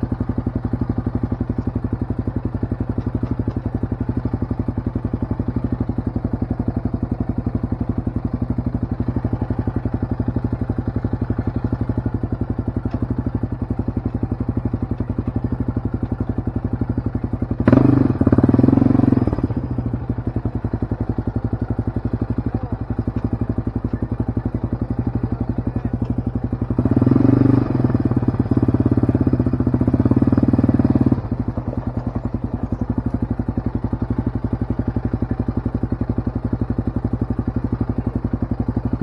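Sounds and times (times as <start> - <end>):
quad bike engine idling: 0.0 - 39.0.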